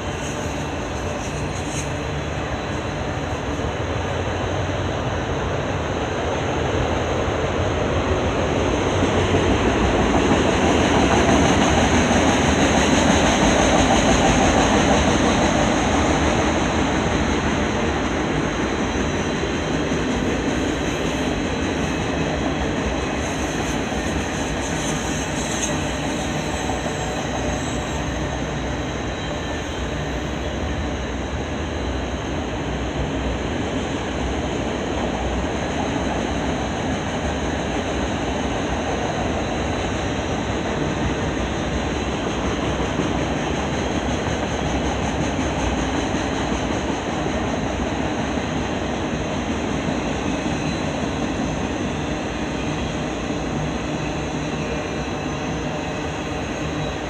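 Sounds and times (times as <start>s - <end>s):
steel train wheels on rail: 0.0s - 57.0s.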